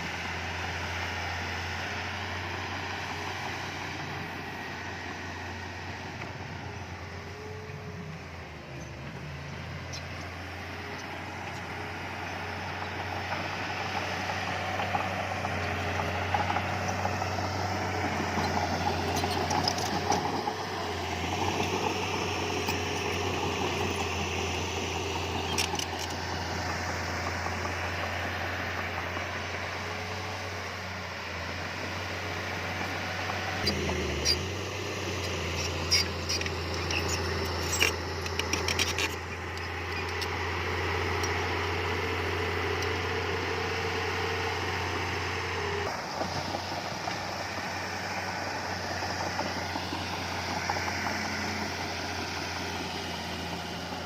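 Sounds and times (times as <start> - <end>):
diesel machinery engine: 0.0 - 54.0.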